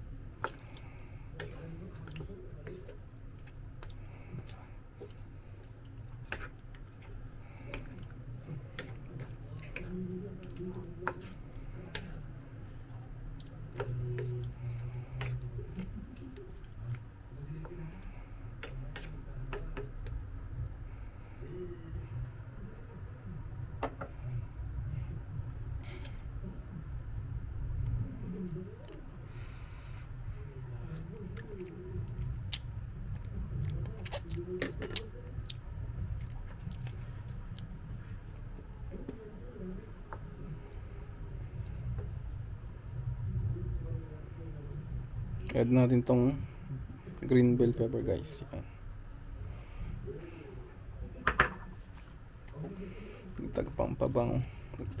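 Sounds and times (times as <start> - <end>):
steady low rumble: 0.0 - 47.3.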